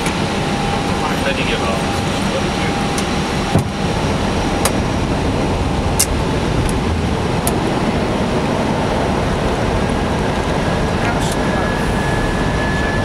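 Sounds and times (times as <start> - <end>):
airflow and engine noise: 0.0 - 13.0.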